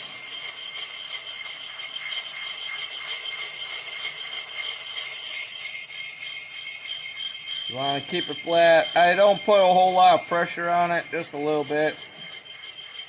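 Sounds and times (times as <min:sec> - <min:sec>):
high shimmering ringing: 0:00.0 - 0:13.0.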